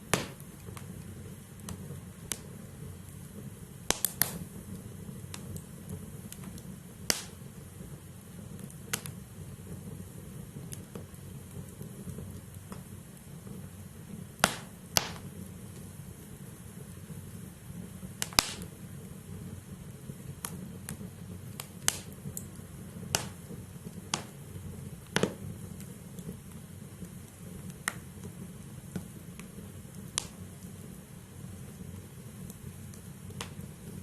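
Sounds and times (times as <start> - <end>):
fire hissing: 0.0 - 34.0
logs popping and crackling: 0.0 - 34.0.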